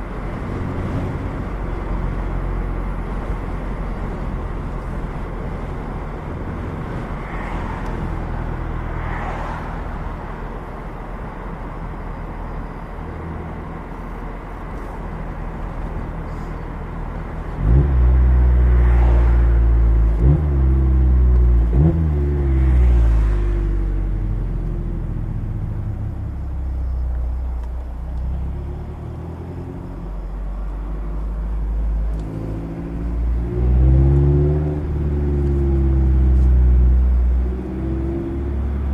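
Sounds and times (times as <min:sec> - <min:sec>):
road and wind noise: 0:00.0 - 0:38.9
sports car engine rumbling: 0:00.0 - 0:38.9.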